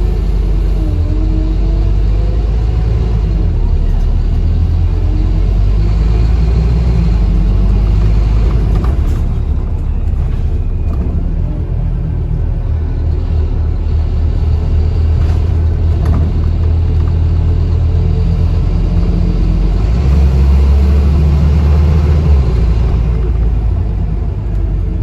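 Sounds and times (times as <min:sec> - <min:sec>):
bus engine drone: 0:00.0 - 0:25.0
road and body rumble: 0:00.0 - 0:25.0.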